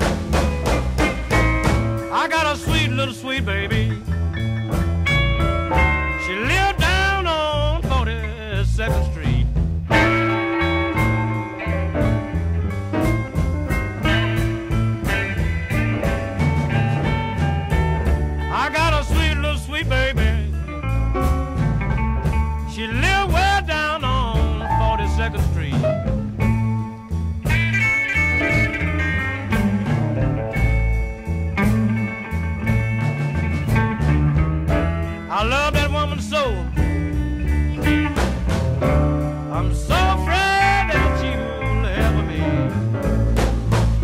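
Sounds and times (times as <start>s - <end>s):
blues band playing: 0.0s - 44.0s
electric guitar bending notes: 0.0s - 44.0s.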